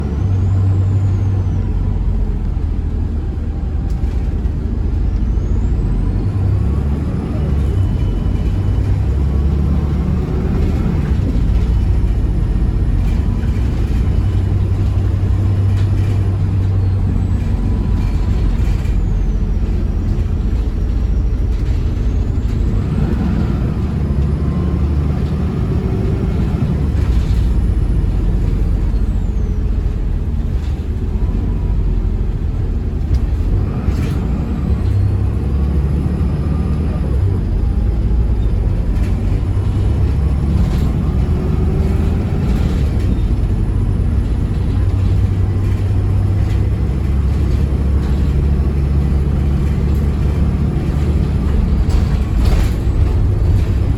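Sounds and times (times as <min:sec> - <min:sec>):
diesel engine drone: 0:00.0 - 0:53.9.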